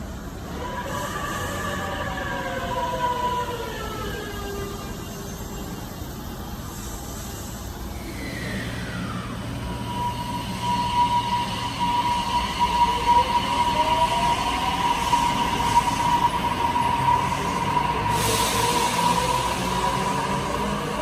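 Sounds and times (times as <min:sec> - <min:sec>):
electric train motors whining: 0:00.0 - 0:21.0.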